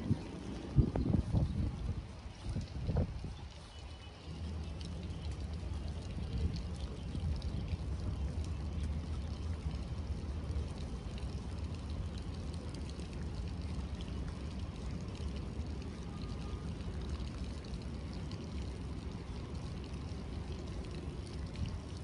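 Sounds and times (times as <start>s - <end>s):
constant low rumble: 0.0s - 22.0s
rain on stone paving: 0.0s - 22.0s.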